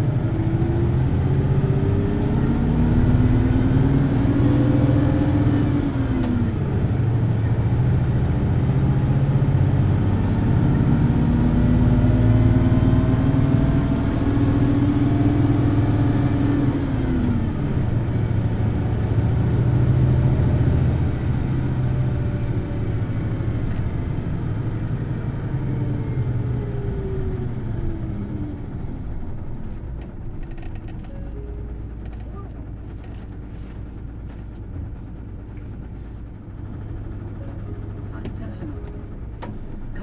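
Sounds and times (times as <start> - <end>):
bus diesel engine revving: 0.0 - 30.7, 31.6 - 40.0.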